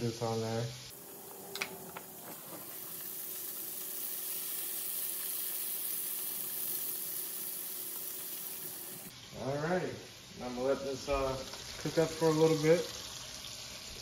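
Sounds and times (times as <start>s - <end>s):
shrimp sizzling in frying pan: 0.0s - 14.0s.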